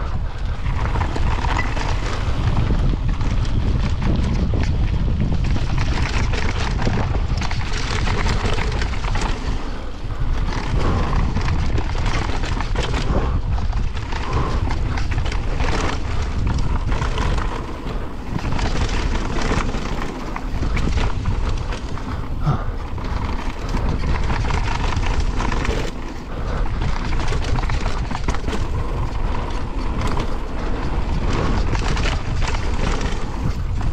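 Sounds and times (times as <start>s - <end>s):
bike clattering and rattling: 0.0s - 33.9s
tyres rumbling over dirt: 0.0s - 33.9s
wind noise on microphone: 0.0s - 33.9s.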